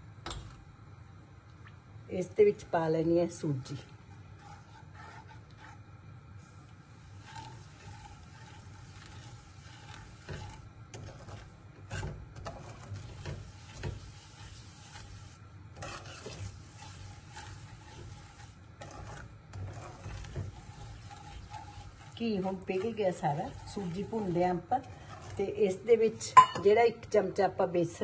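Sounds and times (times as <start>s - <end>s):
metal spoon scraping a pan: 3.7s - 26.8s.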